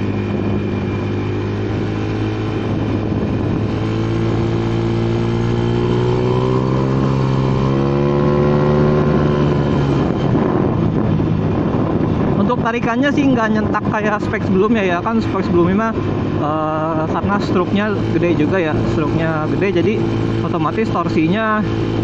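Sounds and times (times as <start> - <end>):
scooter engine under throttle: 0.0 - 22.0.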